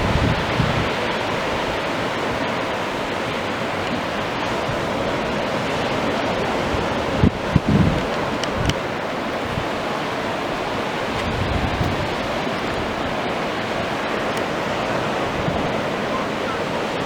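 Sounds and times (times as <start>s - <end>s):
wind and surf rushing: 0.0s - 17.0s
wind gusts buffeting microphone: 0.0s - 17.0s.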